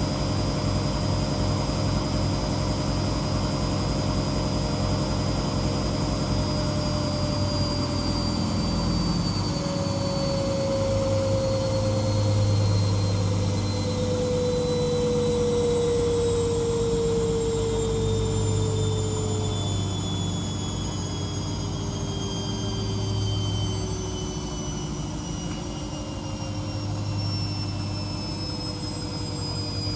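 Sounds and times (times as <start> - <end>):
washing machine spinning down: 0.0 - 29.9.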